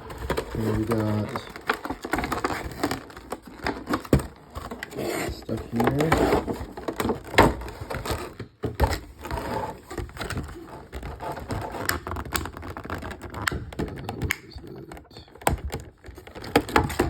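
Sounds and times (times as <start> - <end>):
packaging rustling: 0.0 - 17.0.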